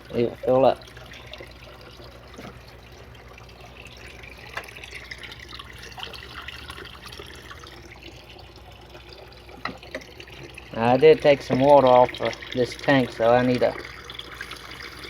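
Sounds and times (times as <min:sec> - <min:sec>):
faint water drips: 0:00.0 - 0:15.0
water trickling into a tank: 0:00.0 - 0:15.0.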